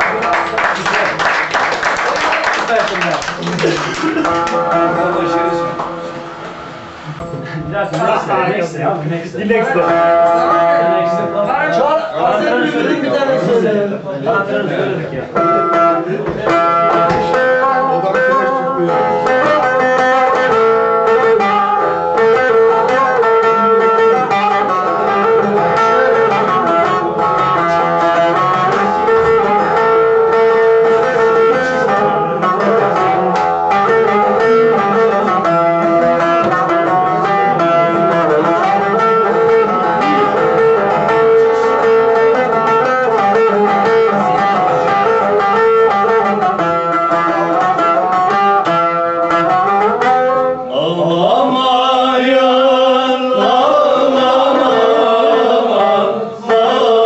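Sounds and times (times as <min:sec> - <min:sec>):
plucked string instrument melody: 0:03.6 - 0:57.0.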